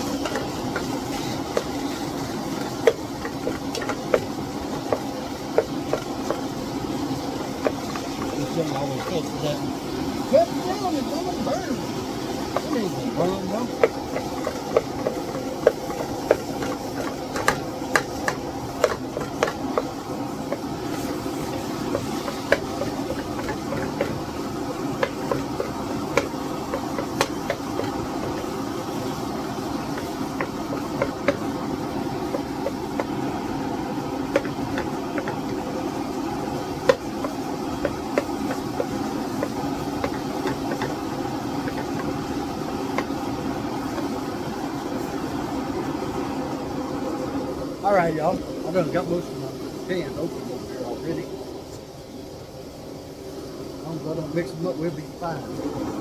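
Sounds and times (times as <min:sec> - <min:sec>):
meat sizzling in a frying pan: 0:00.0 - 0:56.0.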